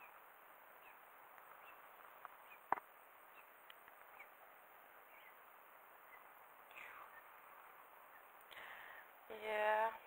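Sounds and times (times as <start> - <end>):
faint bird chirps: 0.0 - 9.1.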